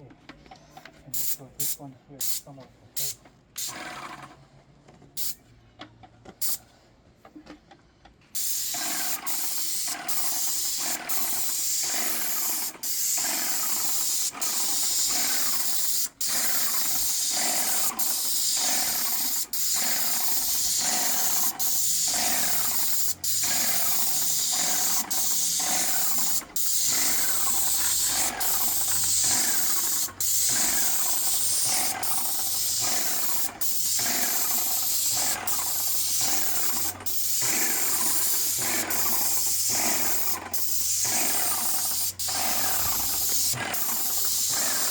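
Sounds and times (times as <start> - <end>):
paint sprayer hissing: 1.1 - 2.4, 8.4 - 44.9.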